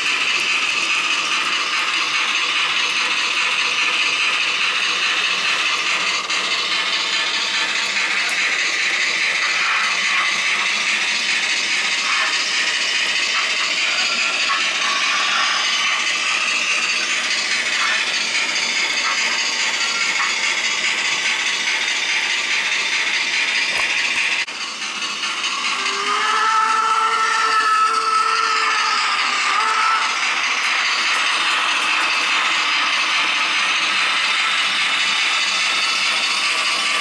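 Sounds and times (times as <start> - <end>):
model trains whirring and rattling: 0.0 - 37.0.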